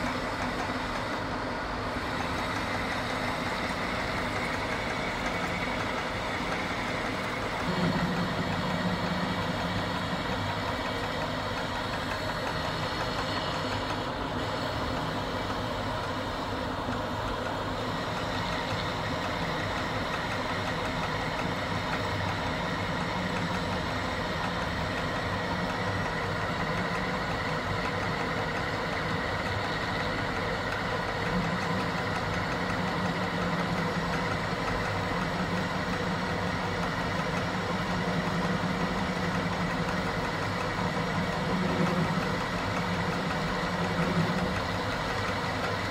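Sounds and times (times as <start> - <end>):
metal lathe cutting: 0.0 - 45.9.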